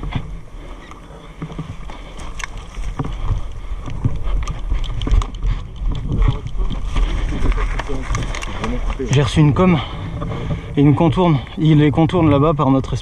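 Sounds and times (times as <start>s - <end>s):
carried gear clattering: 0.0s - 11.0s
running footsteps through grass: 0.0s - 11.8s.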